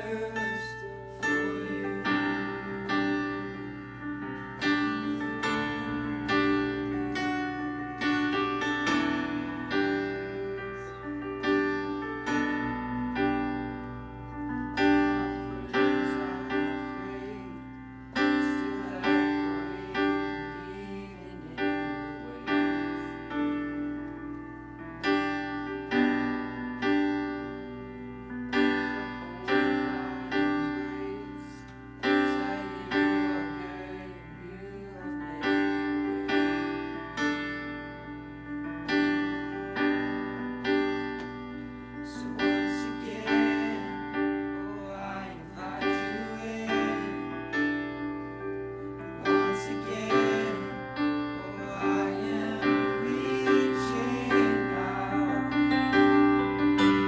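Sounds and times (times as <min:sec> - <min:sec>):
piano playing slow chords: 0:00.0 - 0:57.0.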